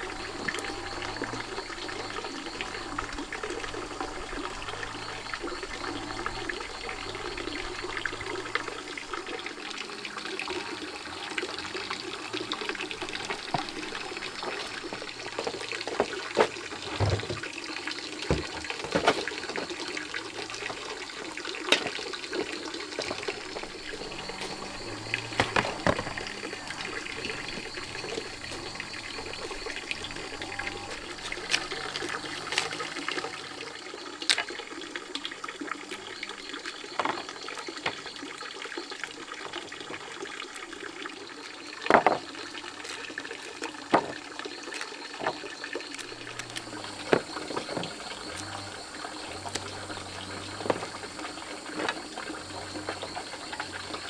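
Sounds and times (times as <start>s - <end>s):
water running: 0.0s - 54.0s.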